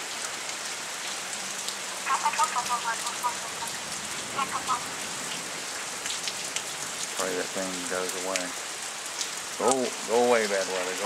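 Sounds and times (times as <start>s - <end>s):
raindrops pattering: 0.0s - 11.0s
steady rain hissing: 0.0s - 11.0s.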